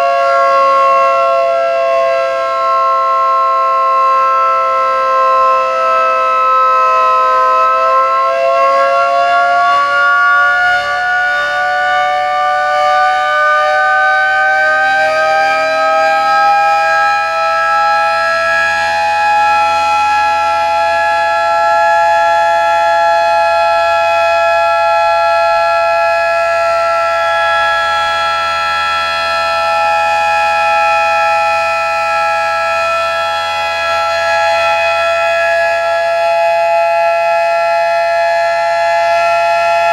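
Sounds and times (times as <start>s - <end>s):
electric motor siren: 0.0s - 39.9s.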